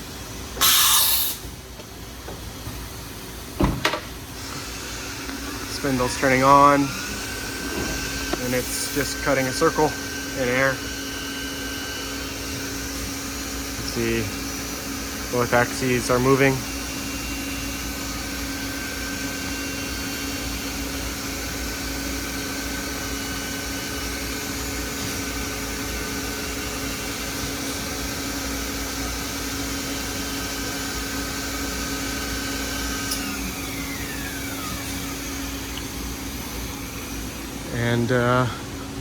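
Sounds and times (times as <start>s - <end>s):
low machine hum: 1.4s - 39.0s
router spindle whine: 4.4s - 39.0s.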